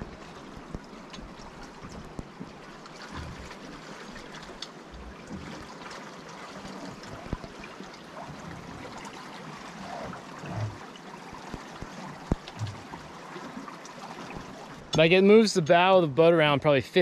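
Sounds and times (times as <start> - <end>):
water rushing past a hull: 0.0 - 17.0.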